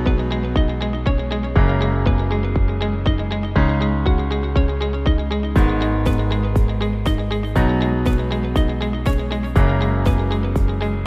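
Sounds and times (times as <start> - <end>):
music with steady beat and chords: 0.0 - 11.0.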